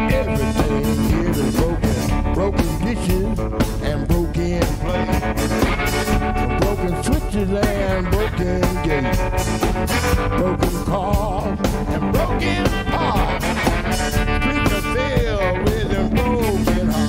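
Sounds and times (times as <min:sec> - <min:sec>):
bass guitar: 0:00.0 - 0:17.0
drum kit: 0:00.0 - 0:17.0
electric guitar bending notes: 0:00.0 - 0:17.0.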